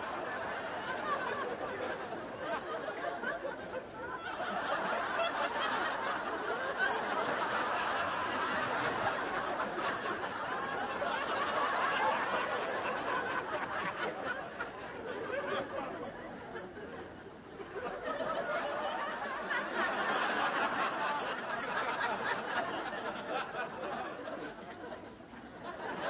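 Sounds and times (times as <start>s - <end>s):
studio audience laughing: 0.0s - 26.0s.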